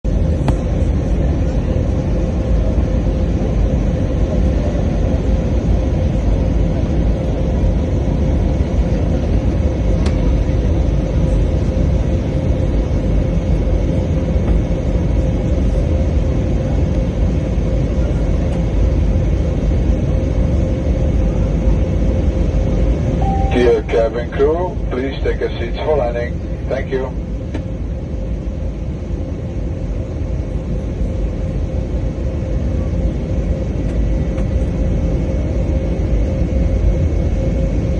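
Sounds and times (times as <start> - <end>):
jet engine cabin rumble: 0.0 - 37.9.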